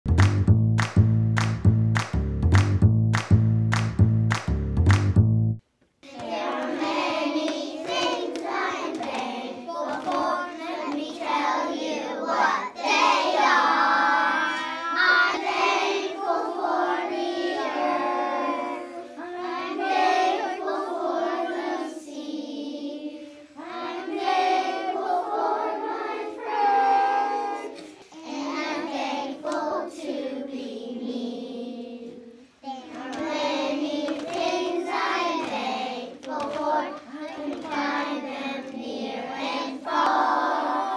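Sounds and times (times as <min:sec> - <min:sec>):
children singing together: 0:06.0 - 0:40.9.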